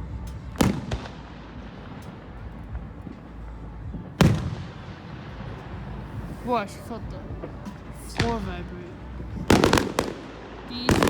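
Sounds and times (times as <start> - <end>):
firework explosions: 0.0 - 11.0.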